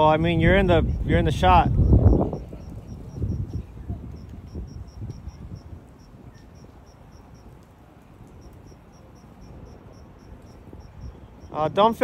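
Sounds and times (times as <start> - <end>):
insect chirping: 0.6 - 7.6, 8.3 - 11.6.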